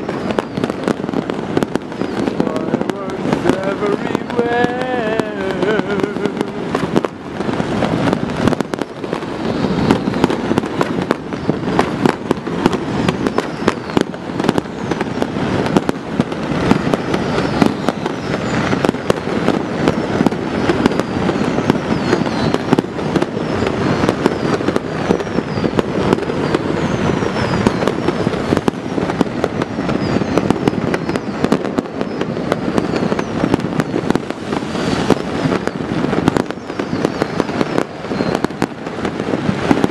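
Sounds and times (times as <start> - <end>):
fireworks bangs and crackles: 0.0 - 39.9
high falling firework whistles: 0.0 - 39.9.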